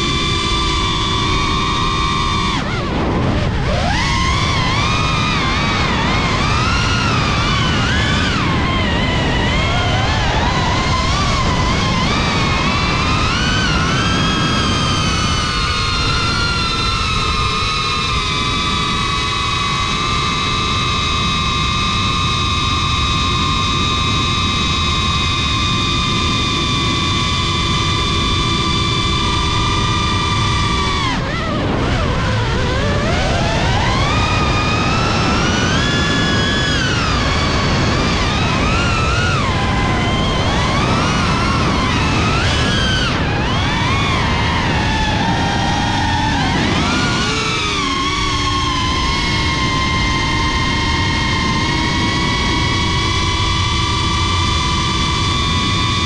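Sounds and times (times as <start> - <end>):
drone motors whining: 0.0 - 56.0.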